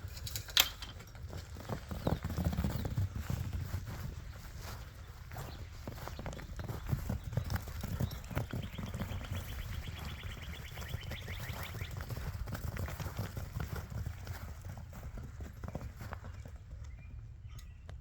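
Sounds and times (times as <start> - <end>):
paws running on frozen ground: 1.1 - 17.2.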